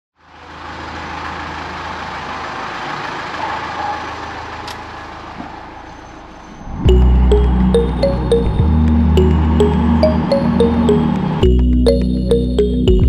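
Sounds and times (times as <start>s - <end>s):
car engine idling: 0.2s - 12.4s.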